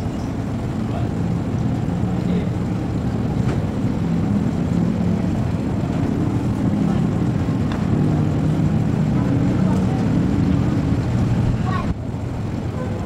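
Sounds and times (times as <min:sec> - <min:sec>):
electric trains rumbling: 0:00.0 - 0:13.0.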